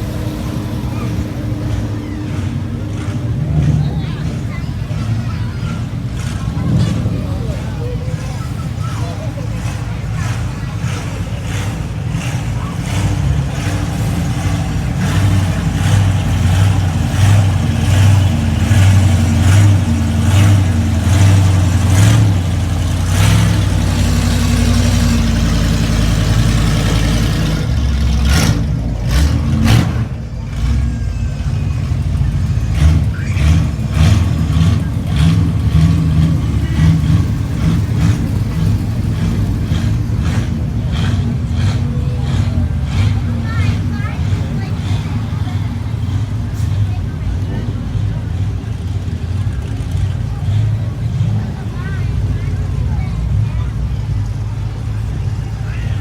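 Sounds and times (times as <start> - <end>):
car engines running: 0.0 - 56.0.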